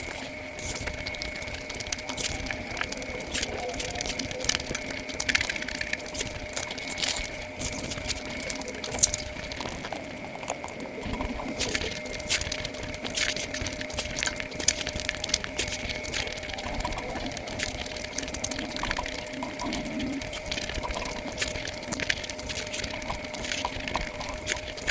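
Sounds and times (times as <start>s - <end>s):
wet chewing and smacking: 0.0s - 24.9s.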